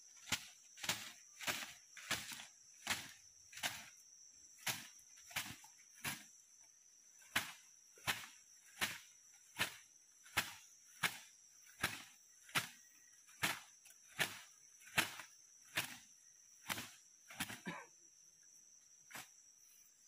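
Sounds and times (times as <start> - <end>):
tool striking earth: 0.0 - 17.9
high insect drone: 0.0 - 20.0.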